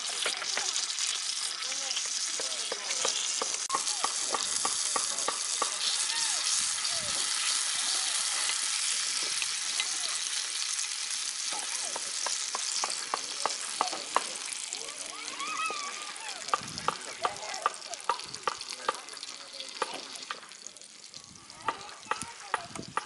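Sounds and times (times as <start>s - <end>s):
food sizzling on a griddle: 0.0s - 23.0s.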